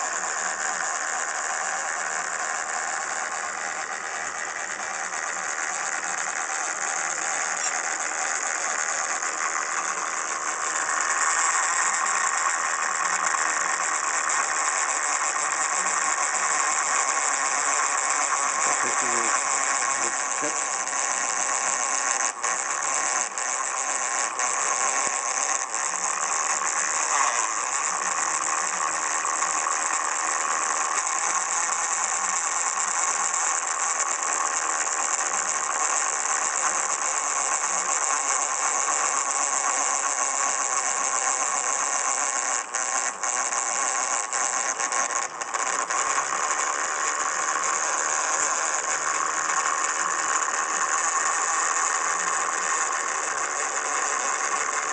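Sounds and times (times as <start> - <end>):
small electric motor whining: 0.0 - 54.9.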